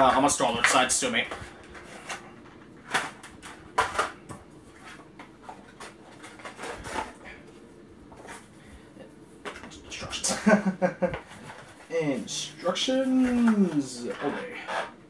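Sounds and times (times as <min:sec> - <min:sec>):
plastic and cardboard rustling: 0:00.0 - 0:08.8, 0:09.4 - 0:15.0.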